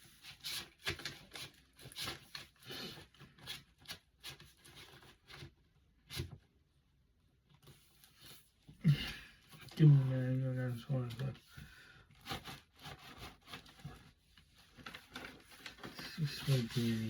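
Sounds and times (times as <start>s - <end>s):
rustling and crinkling packaging: 0.0s - 6.4s, 7.5s - 17.0s.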